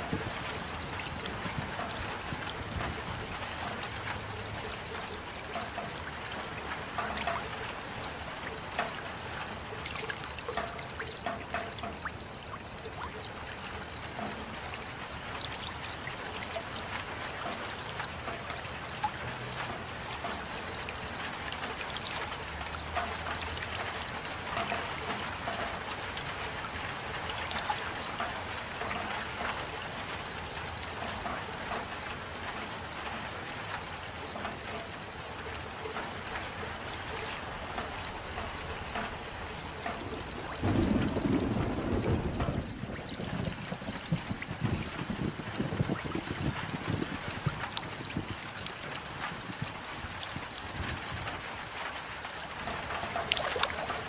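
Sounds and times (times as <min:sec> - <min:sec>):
drops and drips ticking: 0:00.0 - 0:54.0
rain falling: 0:00.0 - 0:54.0.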